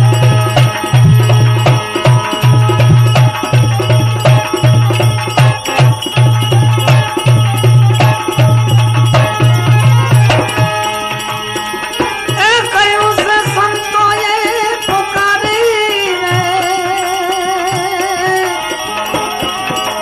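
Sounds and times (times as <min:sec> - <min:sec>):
deep drum beats and percussion: 0:00.0 - 0:20.0
wavering gliding melody: 0:00.0 - 0:20.0.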